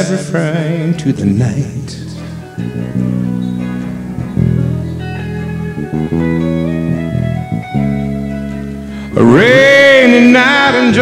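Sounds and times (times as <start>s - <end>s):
guitars playing held chords: 0.0s - 11.0s.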